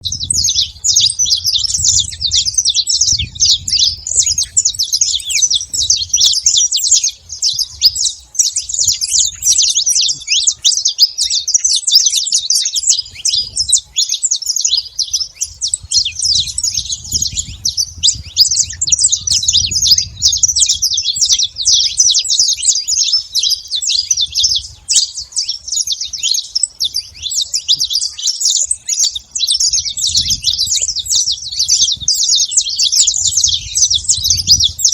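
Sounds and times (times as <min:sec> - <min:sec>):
finch singing rapid trills: 0:00.0 - 0:34.9.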